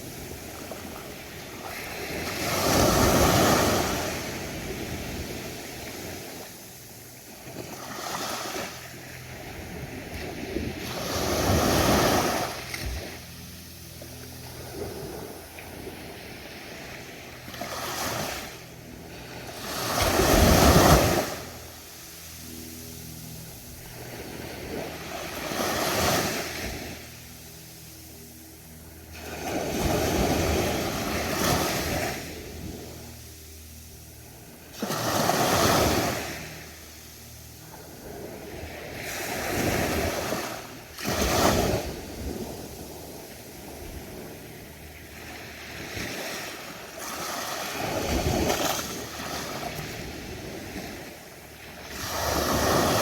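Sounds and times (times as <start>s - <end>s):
ocean waves breaking on beach: 0.0s - 28.0s, 29.0s - 53.0s.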